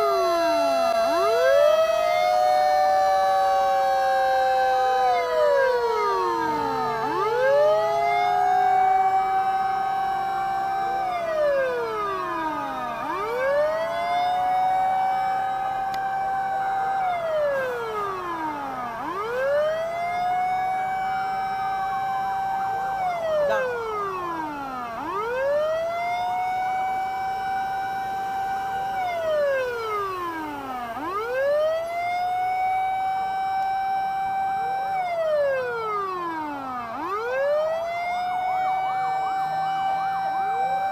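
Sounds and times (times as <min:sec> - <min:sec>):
fire truck siren wailing: 0:00.0 - 0:40.9
other sirens: 0:00.0 - 0:40.9.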